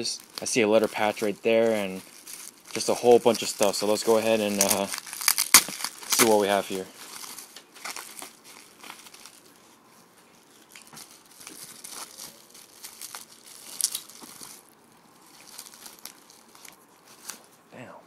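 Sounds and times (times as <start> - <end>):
plastic packaging crinkling: 0.0 - 17.5.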